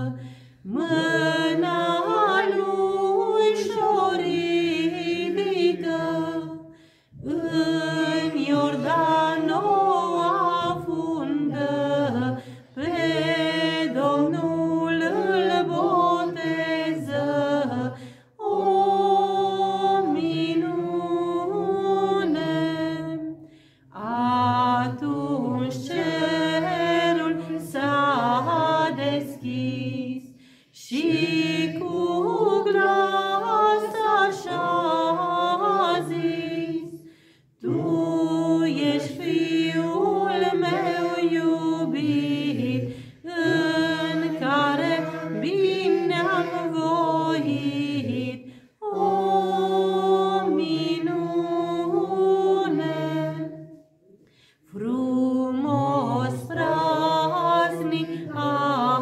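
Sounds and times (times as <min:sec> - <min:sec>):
woman singing unaccompanied: 0:00.0 - 0:06.5, 0:07.2 - 0:23.4, 0:24.0 - 0:36.9, 0:37.6 - 0:53.4, 0:54.7 - 0:59.0.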